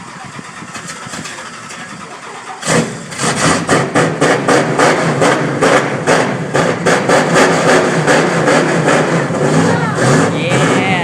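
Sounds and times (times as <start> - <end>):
car engine idling unevenly: 0.0 - 11.0.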